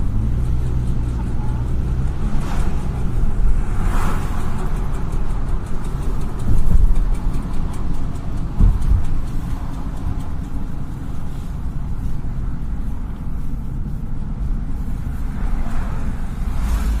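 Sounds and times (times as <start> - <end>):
car running gear and tyre rumble: 0.0 - 17.0.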